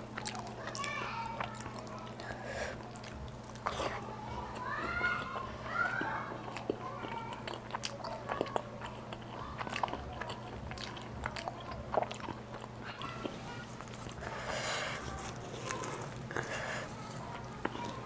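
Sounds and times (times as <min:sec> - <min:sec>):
steady low hum: 0:00.0 - 0:18.0
wet chewing clicks: 0:00.0 - 0:18.0.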